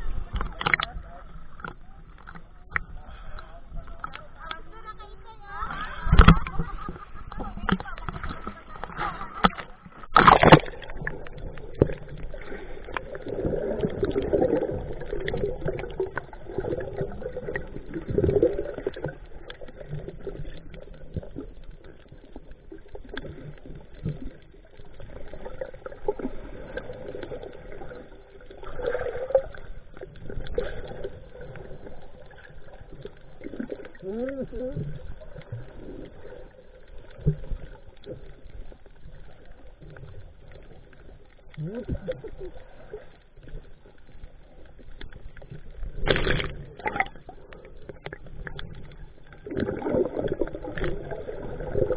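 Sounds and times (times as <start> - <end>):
small underwater clicks and knocks: 0.0 - 51.9
underwater churning water: 0.0 - 51.9.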